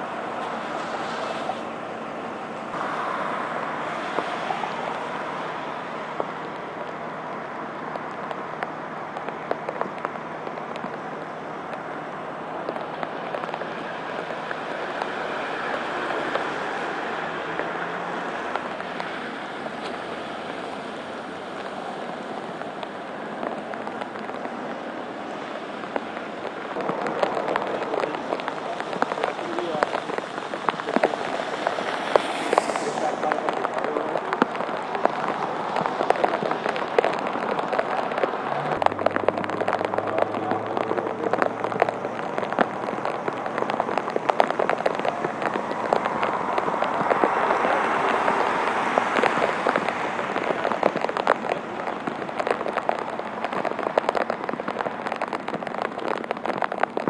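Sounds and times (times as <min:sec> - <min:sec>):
raindrops ticking near microphone: 0:00.0 - 0:57.0
steady rain falling: 0:00.0 - 0:57.0
vehicles hissing on wet pavement: 0:00.0 - 0:57.0.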